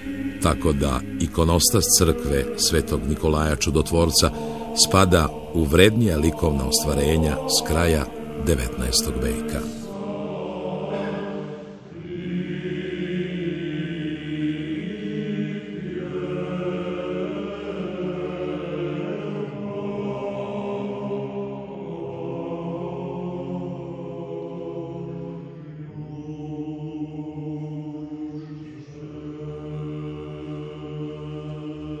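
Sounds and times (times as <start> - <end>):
low voices chanting: 0.0 - 32.0.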